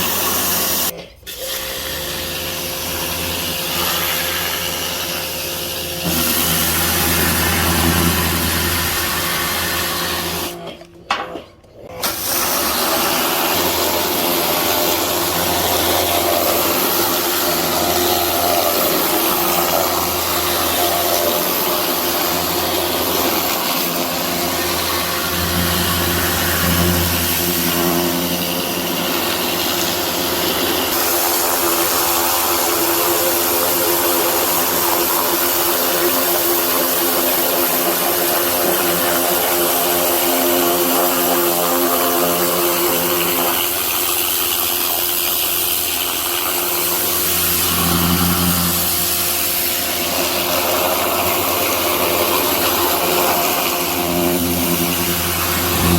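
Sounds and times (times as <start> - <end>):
water jet hissing: 0.0 - 10.7, 12.0 - 55.9
pressure washer motor hum: 0.0 - 55.9.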